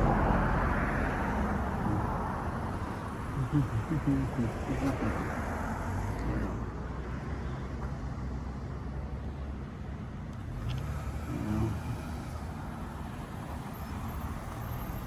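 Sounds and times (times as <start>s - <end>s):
motor vehicle low rumble: 0.0s - 15.0s.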